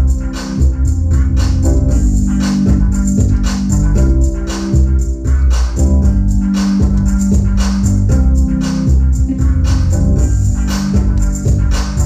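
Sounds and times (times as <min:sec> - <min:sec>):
held bass notes: 0:00.0 - 0:12.0.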